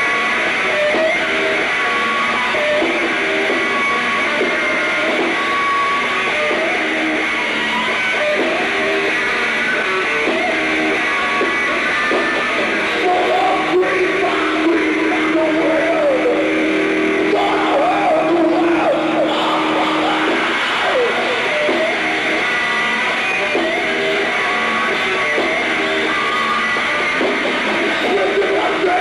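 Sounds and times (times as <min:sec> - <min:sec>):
distorted electric guitar: 0:00.0 - 0:29.0
heavy metal band playing: 0:00.0 - 0:29.0.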